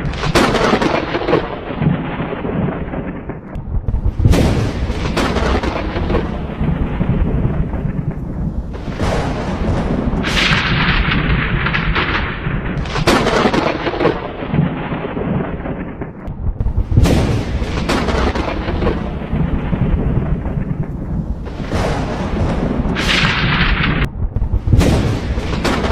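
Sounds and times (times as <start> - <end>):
deep thunder rumbling: 0.0 - 25.9
sharp thunder cracks: 0.0 - 25.9.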